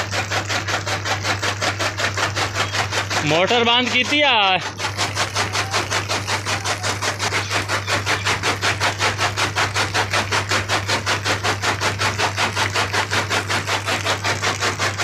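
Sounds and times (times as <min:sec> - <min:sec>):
farm machine beating: 0:00.3 - 0:15.0.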